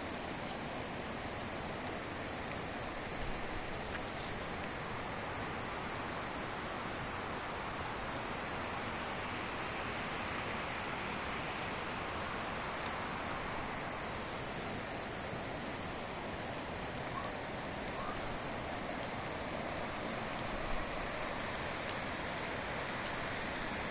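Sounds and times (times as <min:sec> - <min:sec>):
river rushing: 0:00.0 - 0:23.9
cricket trilling: 0:00.3 - 0:23.9.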